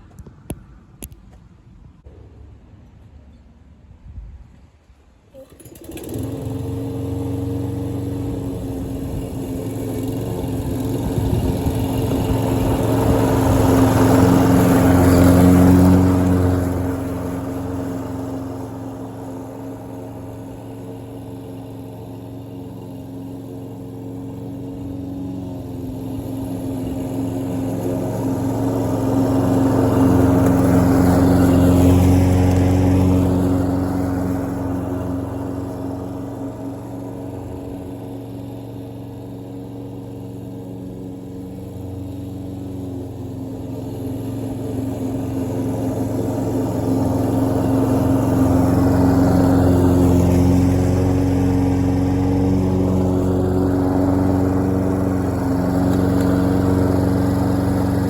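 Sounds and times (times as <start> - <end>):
lawn mower cutting grass: 5.3 - 58.0.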